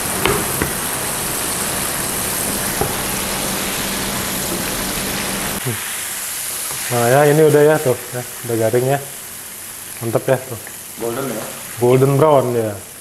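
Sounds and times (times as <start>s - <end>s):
deep-frying sizzle with pops: 0.0s - 13.0s.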